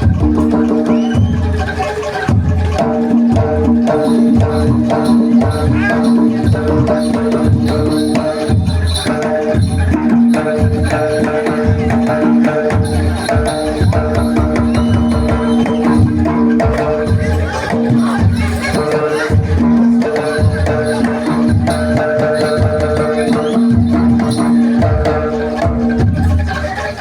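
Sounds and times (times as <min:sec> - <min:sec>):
drums and percussion: 0:00.0 - 0:27.0
held repeating tones: 0:03.4 - 0:26.0.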